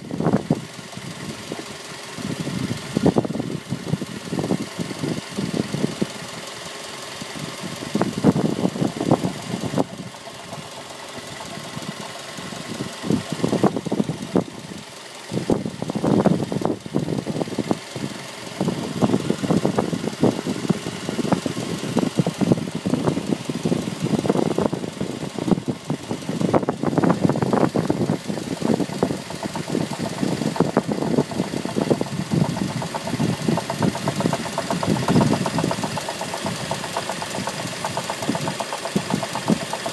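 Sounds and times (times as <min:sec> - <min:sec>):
car engine knocking: 0:00.0 - 0:39.9.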